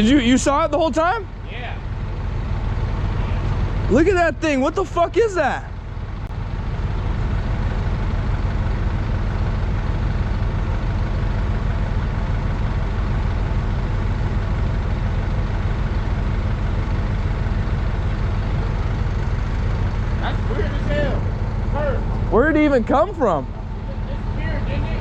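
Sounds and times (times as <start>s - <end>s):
large engine idling: 0.0s - 25.0s.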